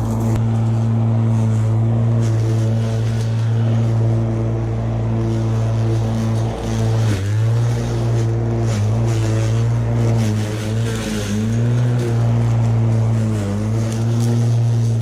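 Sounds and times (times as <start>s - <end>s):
electric lawn mower cutting grass: 0.0s - 15.0s.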